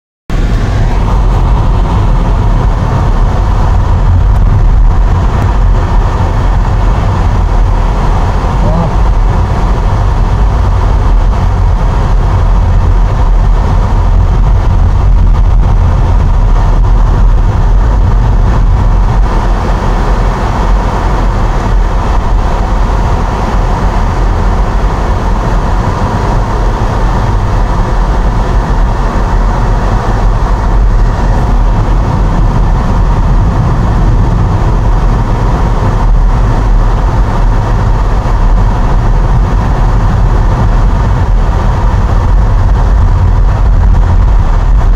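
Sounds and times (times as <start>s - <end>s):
car engine and tyre noise: 0.3s - 44.9s.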